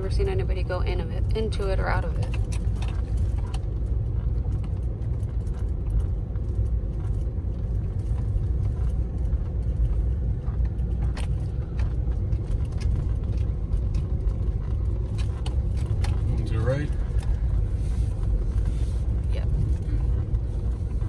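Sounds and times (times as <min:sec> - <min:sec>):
car engine and road noise: 0:00.0 - 0:21.0
faint ticks and rattles: 0:00.0 - 0:21.0.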